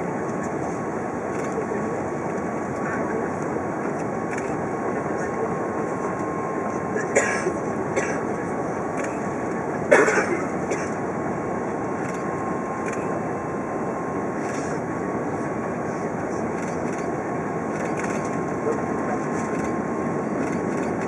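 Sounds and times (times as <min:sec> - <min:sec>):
airflow and engine noise: 0:00.0 - 0:21.0
faint high whine: 0:00.0 - 0:21.0.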